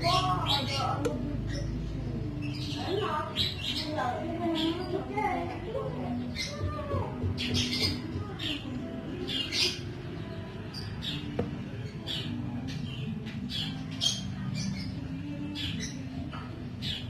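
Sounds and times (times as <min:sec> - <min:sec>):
canary chicks cheeping: 0:00.0 - 0:17.0.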